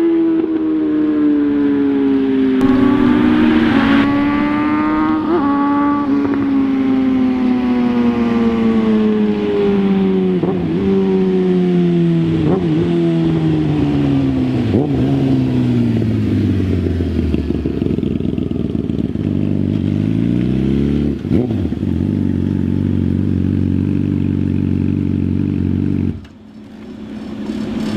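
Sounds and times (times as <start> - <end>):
motorcycle engine revving: 2.6 - 27.9.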